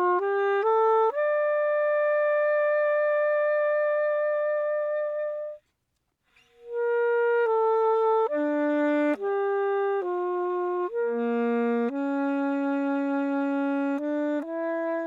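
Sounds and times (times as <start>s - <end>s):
alto saxophone playing: 0.0s - 5.6s, 6.6s - 15.0s.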